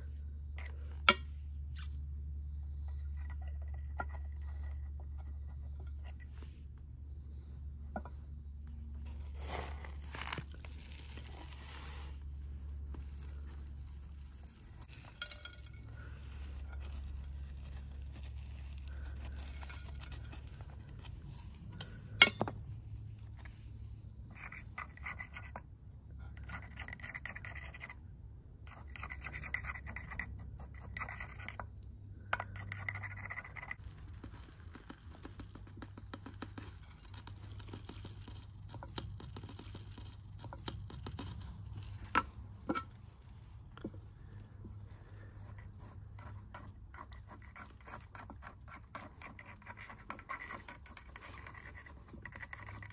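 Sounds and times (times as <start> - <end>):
soil and stones scratching a pot: 0.0 - 52.9.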